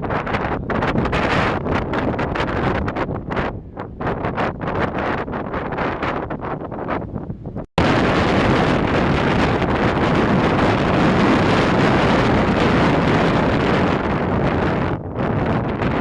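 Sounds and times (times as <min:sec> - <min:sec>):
storm wind on microphone: 0:00.0 - 0:16.0.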